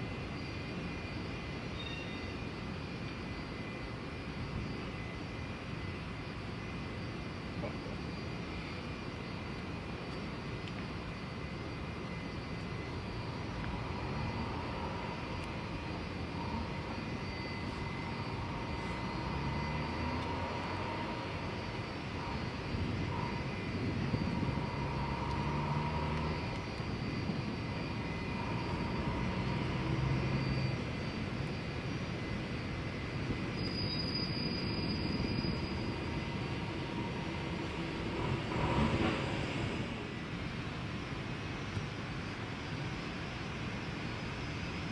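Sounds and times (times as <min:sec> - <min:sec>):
jet engines rumbling and whining: 0:00.0 - 0:44.9.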